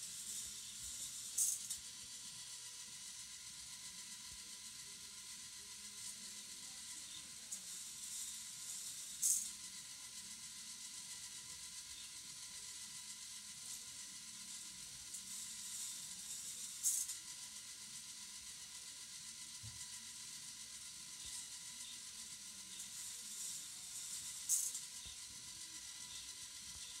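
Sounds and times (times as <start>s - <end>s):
faint hiss and hum: 0.0s - 27.0s
toy car rattling on plastic track: 0.1s - 27.0s.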